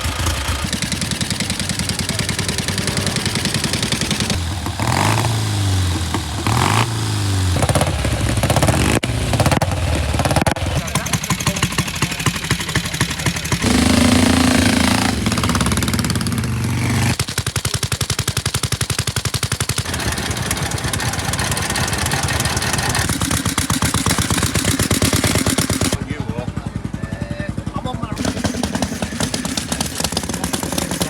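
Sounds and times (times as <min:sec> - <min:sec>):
motorcycle engines popping: 0:00.0 - 0:31.0.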